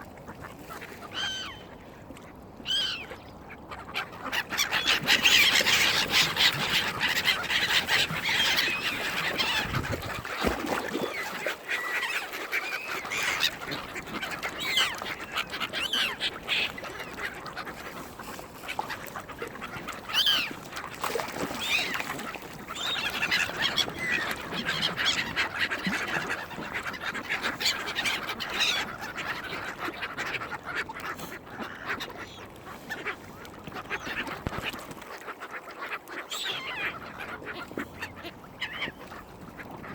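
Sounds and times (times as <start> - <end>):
ducks quacking: 2.7 - 39.9.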